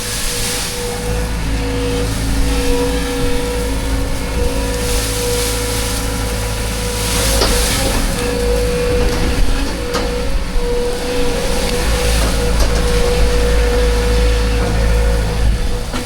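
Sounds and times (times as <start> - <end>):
farm machine engine running: 0.0 - 16.0.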